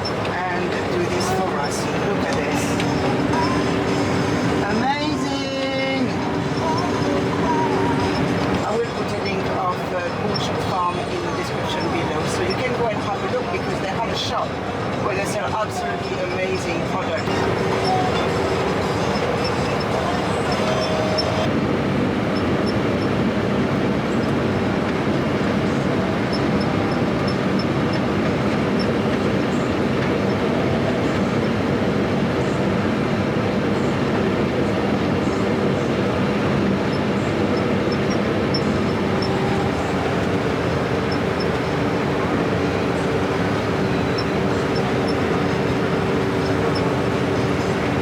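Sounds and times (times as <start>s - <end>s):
combine harvester droning: 0.0s - 48.0s.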